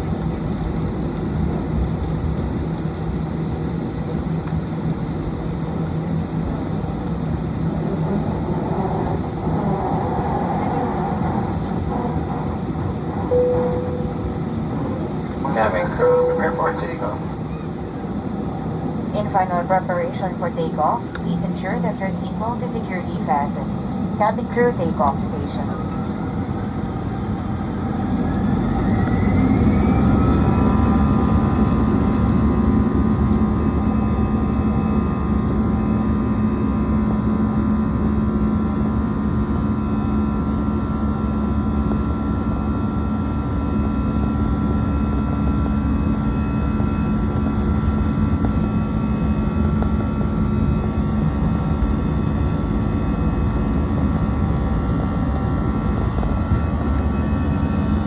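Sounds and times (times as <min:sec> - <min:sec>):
deep cabin hum: 0:00.0 - 0:58.0
jet engines whining: 0:00.0 - 0:58.0.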